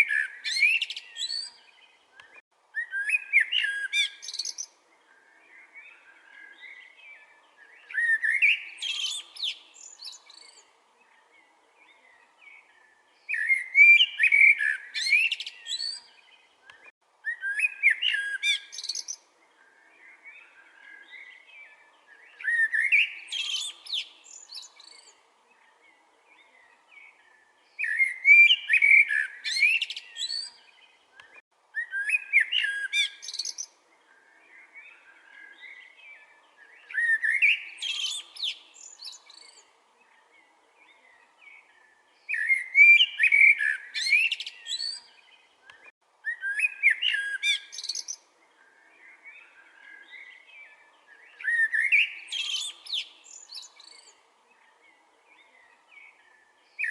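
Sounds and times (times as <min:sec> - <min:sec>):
blackbird singing whistled notes: 0:00.0 - 0:56.9.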